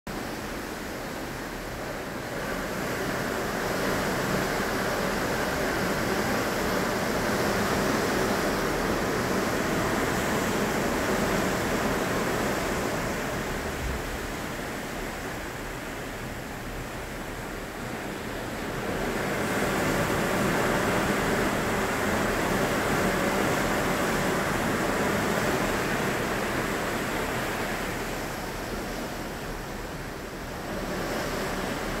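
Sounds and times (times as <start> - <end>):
sea water passing a ship: 0.1 - 32.0.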